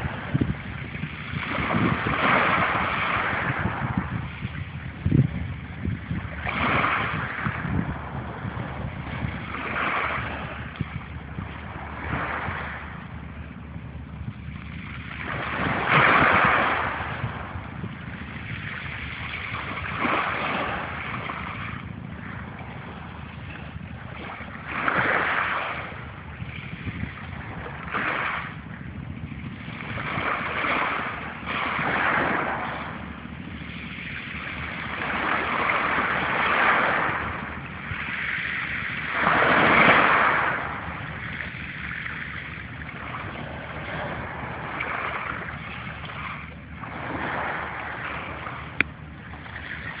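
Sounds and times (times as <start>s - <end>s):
low rumble: 0.0s - 50.0s
sea waves washing in: 0.0s - 50.0s.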